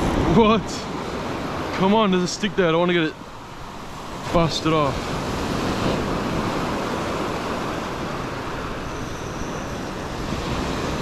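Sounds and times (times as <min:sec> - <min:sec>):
surf washing on sand: 0:00.0 - 0:11.0.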